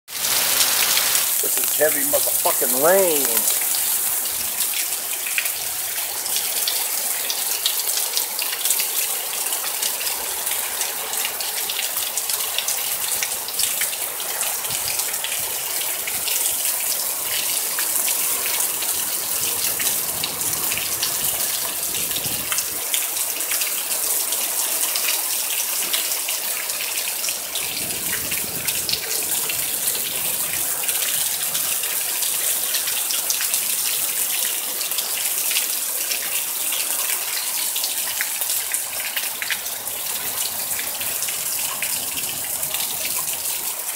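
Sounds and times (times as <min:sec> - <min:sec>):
heavy rain pouring: 0:00.1 - 0:43.9.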